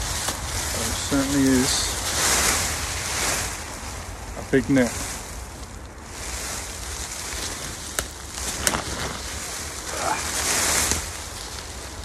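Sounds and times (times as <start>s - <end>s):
net rustling and swishing: 0.0s - 12.0s
wind rumble on microphone: 0.0s - 12.0s.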